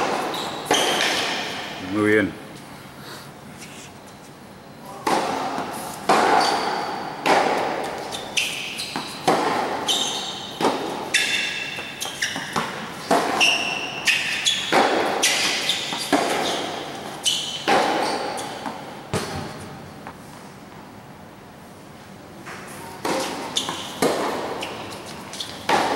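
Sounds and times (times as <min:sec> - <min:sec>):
shoes squeaking on court: 0:00.0 - 0:01.9, 0:03.6 - 0:20.3, 0:22.4 - 0:25.9
racquet strikes and ball bounces: 0:00.0 - 0:02.2, 0:04.9 - 0:20.3, 0:22.4 - 0:25.9.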